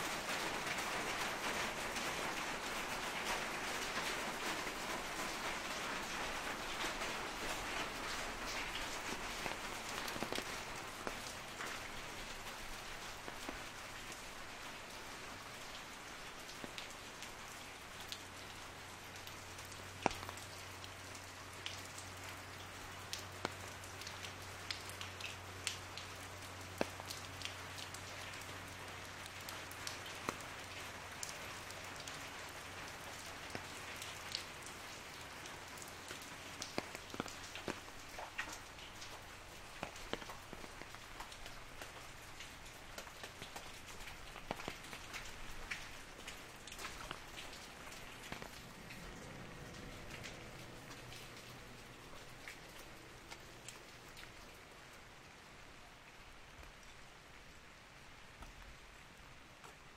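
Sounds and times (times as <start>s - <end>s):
rain drumming on umbrella: 0.0s - 57.2s.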